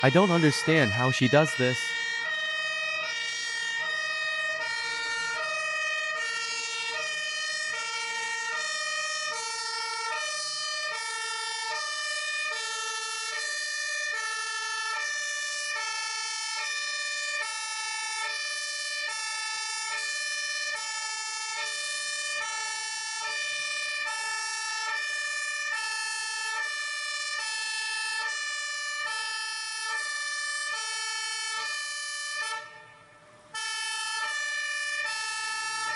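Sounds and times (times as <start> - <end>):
fire truck two-tone siren: 0.0 - 35.9.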